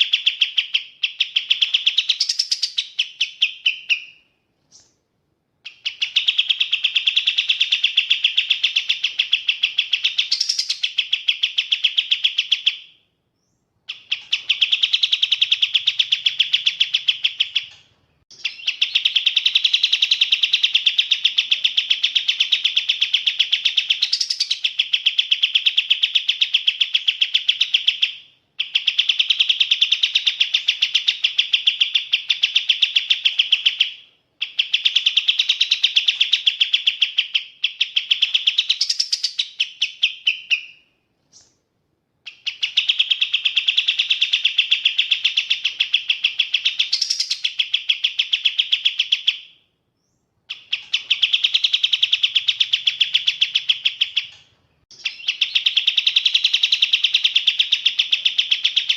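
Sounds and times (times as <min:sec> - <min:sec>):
bird singing rapid trills: 0:00.0 - 0:04.9, 0:05.7 - 0:12.8, 0:13.4 - 0:40.8, 0:42.3 - 0:49.4, 0:50.0 - 0:58.9.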